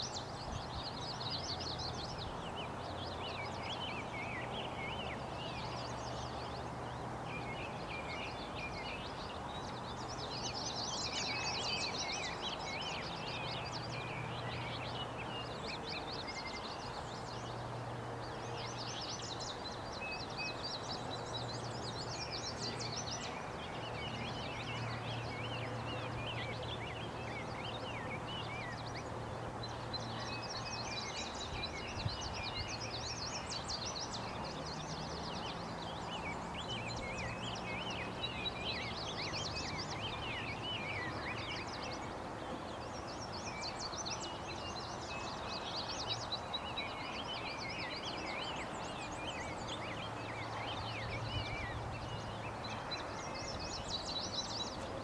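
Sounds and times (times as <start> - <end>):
outdoor background hiss: 0.0 - 55.0
songbirds chirping: 0.0 - 55.0.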